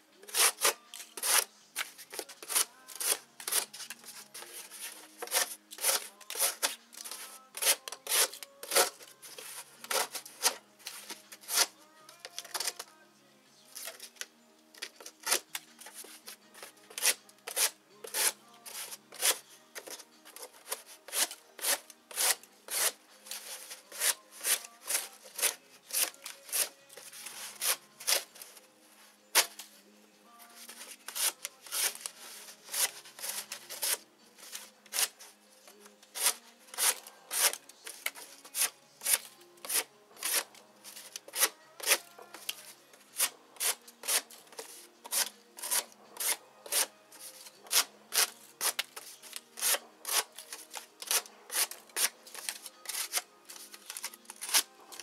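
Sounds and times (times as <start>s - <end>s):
knife cutting cardboard: 0.2s - 11.8s, 14.8s - 28.5s, 30.6s - 35.2s, 36.1s - 55.0s.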